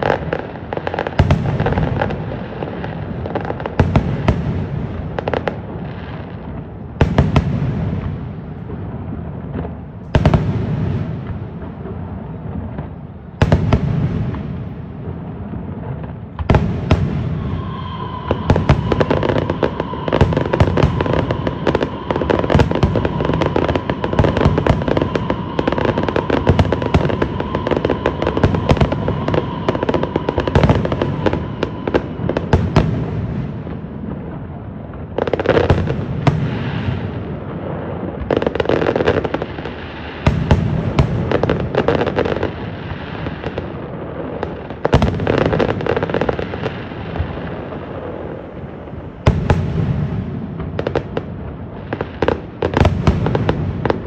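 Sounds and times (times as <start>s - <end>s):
firework shells booming: 1.0s - 54.0s.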